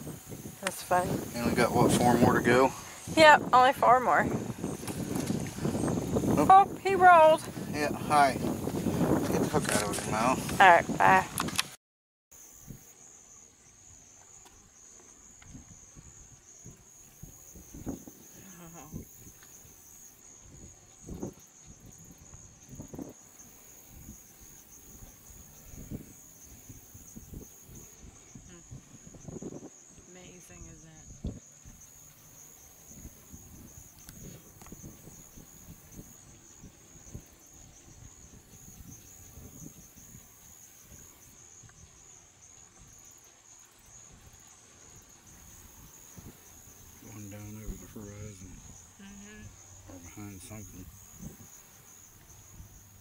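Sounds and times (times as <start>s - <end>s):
night insects chirring: 0.0s - 11.7s, 12.3s - 53.0s.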